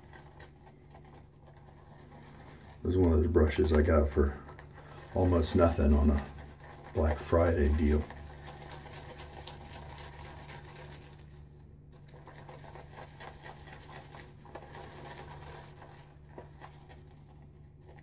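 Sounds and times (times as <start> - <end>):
shaving brush swishing lather: 0.0 - 18.0.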